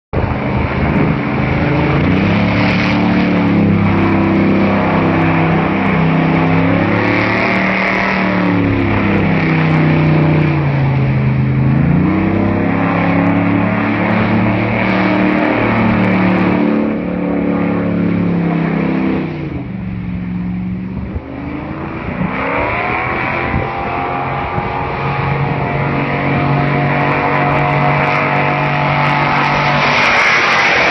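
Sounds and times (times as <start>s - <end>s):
boat engine running hard: 0.2s - 30.9s.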